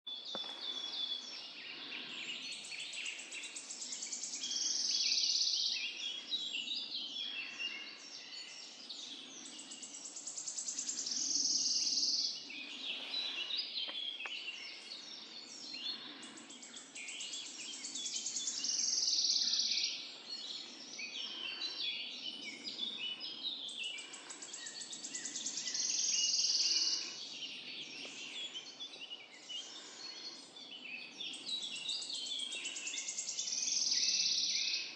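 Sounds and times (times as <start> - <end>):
birds chirping: 0.1 - 34.9
songbird trilling song: 0.1 - 34.9.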